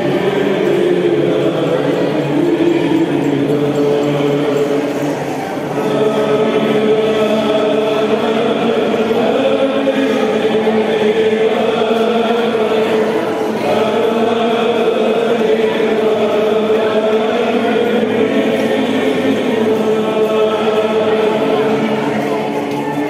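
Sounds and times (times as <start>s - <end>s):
choir chanting: 0.0s - 23.0s.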